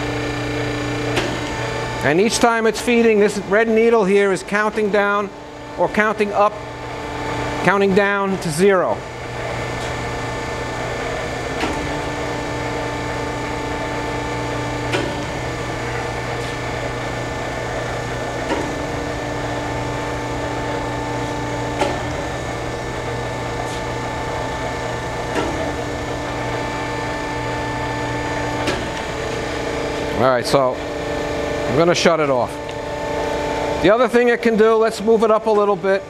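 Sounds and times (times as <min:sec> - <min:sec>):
grinder motor hum: 0:00.0 - 0:36.0.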